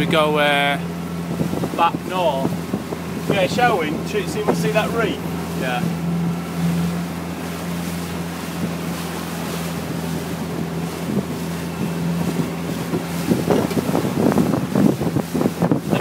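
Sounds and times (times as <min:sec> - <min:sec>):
motorboat engine running: 0:00.0 - 0:16.0
wind buffeting microphone: 0:00.0 - 0:16.0.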